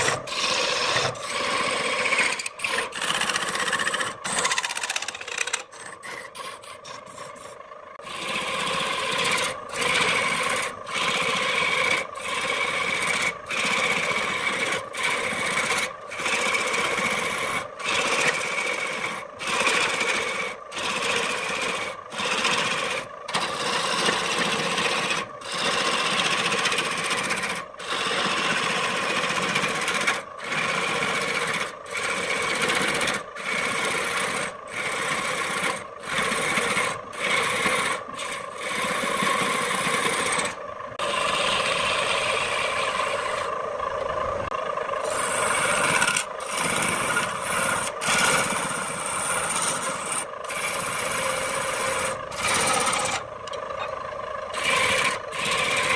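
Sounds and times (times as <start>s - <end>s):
gouge scraping wood on lathe: 0.0s - 43.6s, 44.5s - 55.9s
lathe hum: 0.0s - 55.9s.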